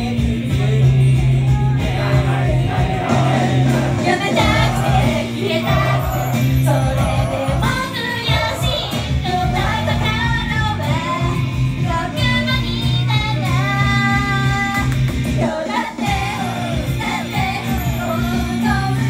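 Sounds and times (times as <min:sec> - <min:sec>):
band backing with bass beat: 0:00.0 - 0:19.0
women singing pop melody: 0:00.0 - 0:19.0.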